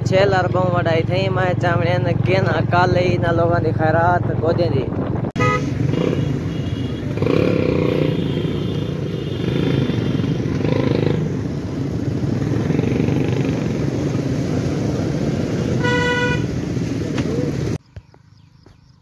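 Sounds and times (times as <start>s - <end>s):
motorcycles and traffic passing: 0.0s - 19.0s.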